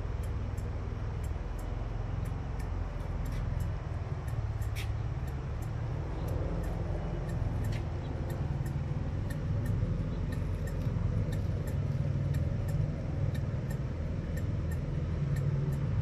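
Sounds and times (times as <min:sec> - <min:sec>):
clock ticking: 0:00.0 - 0:16.0
low background rumble: 0:00.0 - 0:16.0.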